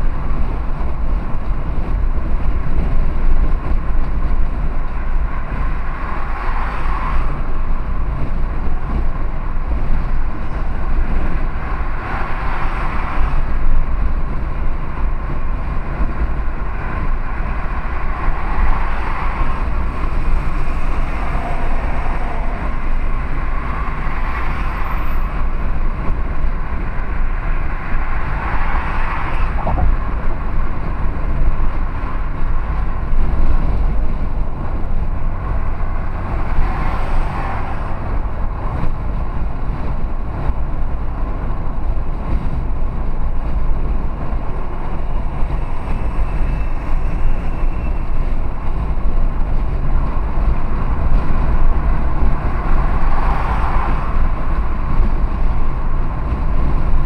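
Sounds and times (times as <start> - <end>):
car engine low rumble: 0.0 - 57.0.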